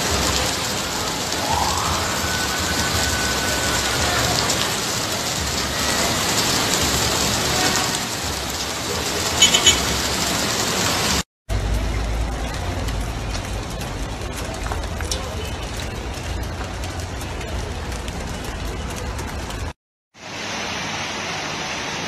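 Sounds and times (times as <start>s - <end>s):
heavy rain splashing: 0.0s - 22.0s.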